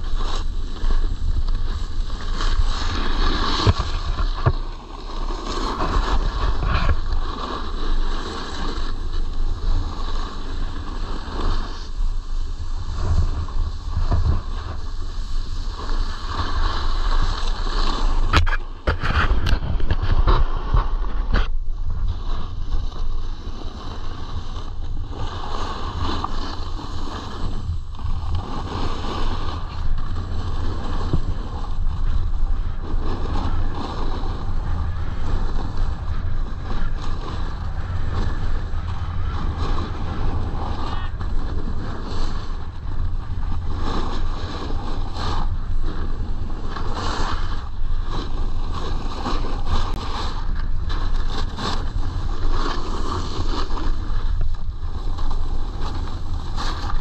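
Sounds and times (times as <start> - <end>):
snowboard scraping packed snow: 0.0 - 57.0
wind on microphone: 0.0 - 57.0.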